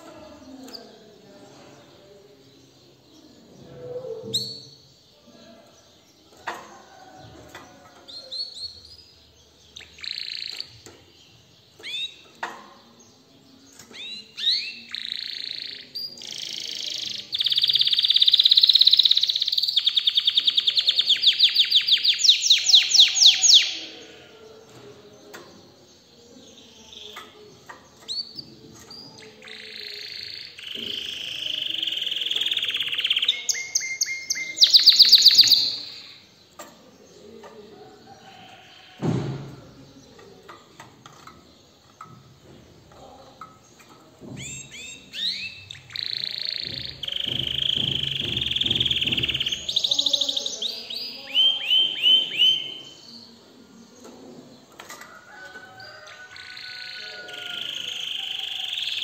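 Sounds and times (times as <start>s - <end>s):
canary singing: 2.0s - 25.8s, 26.4s - 39.0s, 39.9s - 59.0s.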